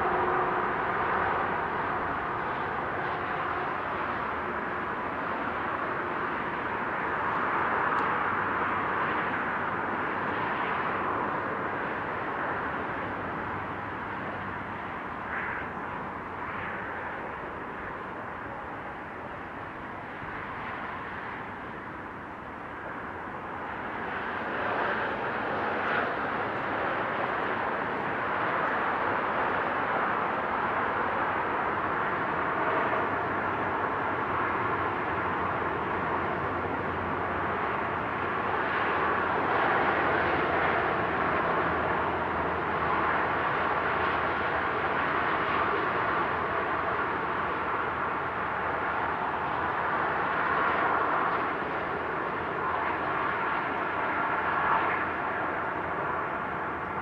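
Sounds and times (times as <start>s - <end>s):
motorway traffic: 0.0s - 57.0s.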